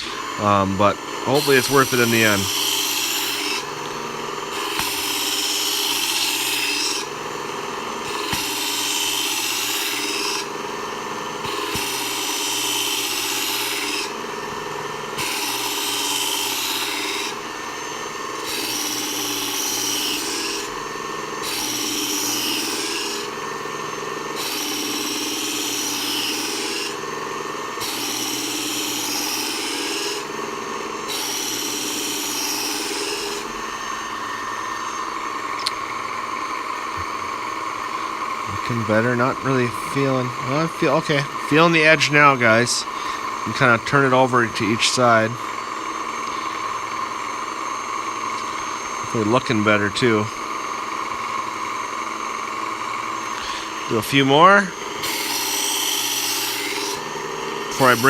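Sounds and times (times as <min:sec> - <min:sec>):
blade grinding on abrasive belt: 0:00.0 - 0:58.0
electric belt sharpener running: 0:00.0 - 0:58.0.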